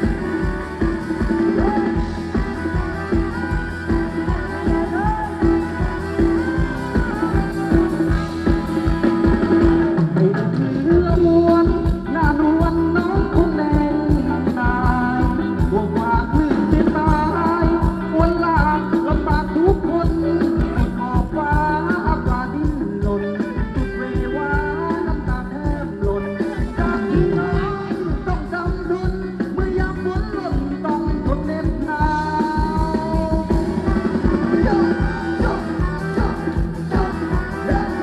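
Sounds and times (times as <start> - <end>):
fast drum beat: 0.0 - 23.2, 24.4 - 38.0
person singing melody: 0.0 - 38.0.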